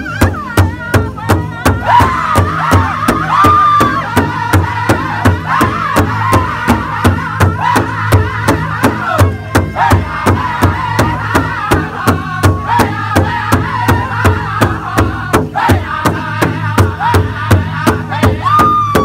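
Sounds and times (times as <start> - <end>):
big drum steady beat: 0.0 - 19.0
men singing high-pitched in unison: 0.0 - 19.0.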